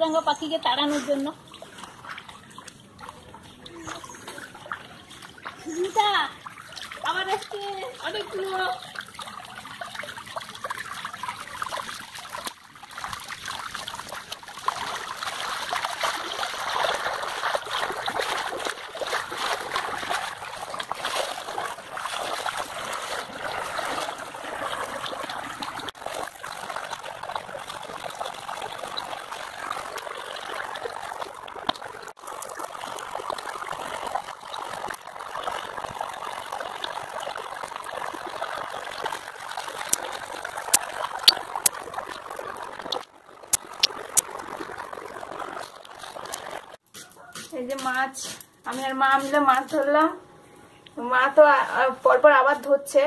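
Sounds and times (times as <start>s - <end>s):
water trickling: 0.0s - 46.8s.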